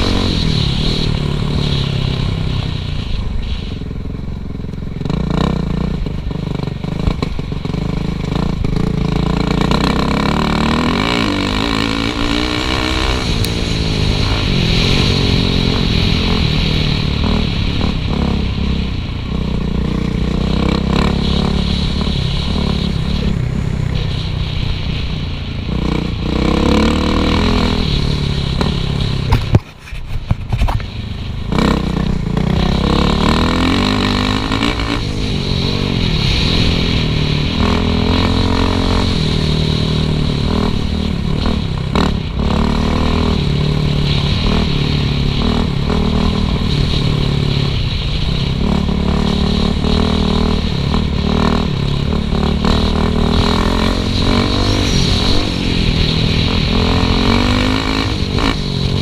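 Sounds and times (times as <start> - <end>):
dirt bike engine revving: 0.0 - 3.8, 4.7 - 29.5, 31.5 - 59.0.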